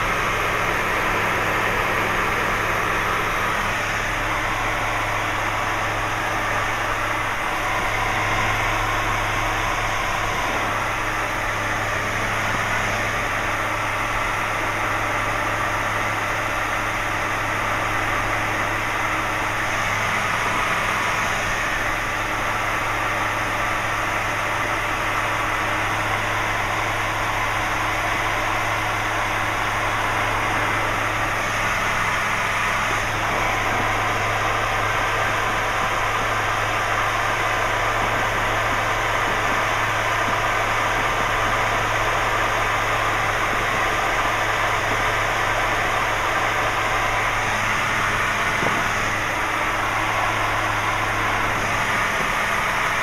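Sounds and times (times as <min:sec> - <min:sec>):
propeller aircraft engine droning: 0:00.0 - 0:53.0.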